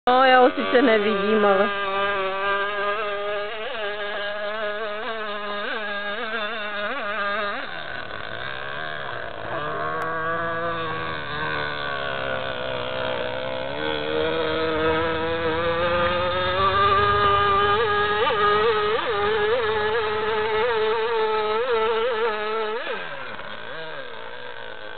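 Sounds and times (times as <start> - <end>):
model boat engine high-pitched buzz: 0.1 - 24.9.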